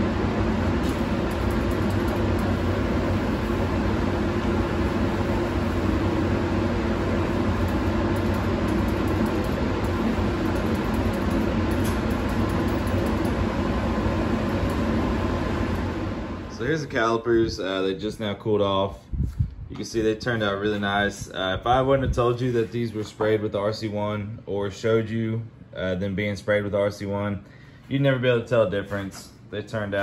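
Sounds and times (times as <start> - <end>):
exhaust fan rushing air: 0.0 - 30.0.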